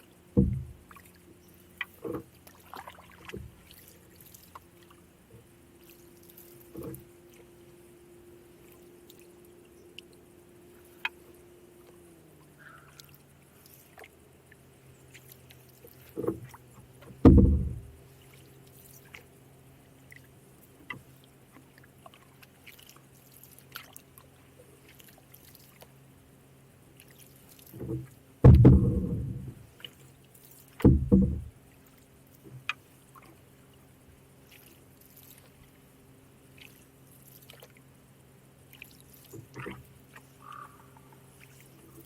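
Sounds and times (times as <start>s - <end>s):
canoe paddle swishing and splashing: 0.0s - 7.5s, 11.9s - 19.4s, 20.0s - 26.0s, 27.0s - 33.5s, 34.3s - 35.8s, 36.4s - 37.8s, 38.7s - 42.0s.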